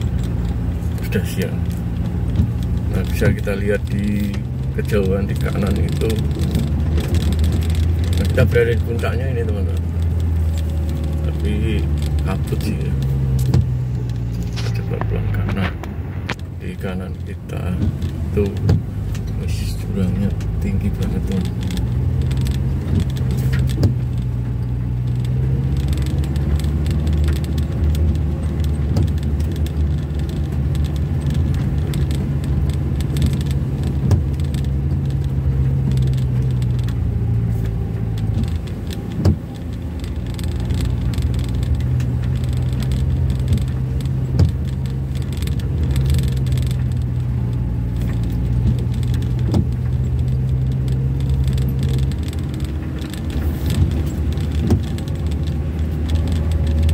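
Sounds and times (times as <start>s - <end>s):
car engine and tyre drone: 0.0s - 56.9s
knocks and rattles of loose things: 0.0s - 56.9s.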